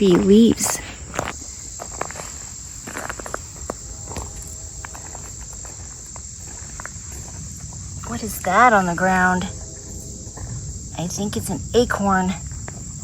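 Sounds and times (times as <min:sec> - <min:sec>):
footsteps on trail: 0:00.0 - 0:11.6, 0:12.4 - 0:13.0
high-pitched insect chorus: 0:00.0 - 0:13.0.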